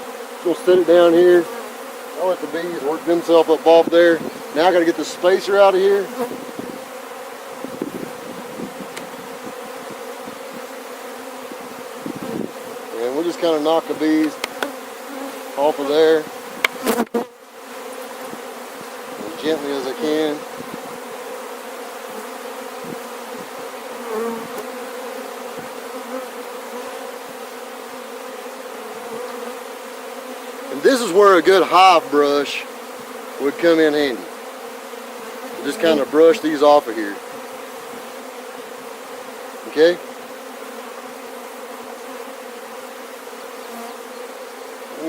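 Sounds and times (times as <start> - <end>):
bees buzzing: 0.0 - 45.0.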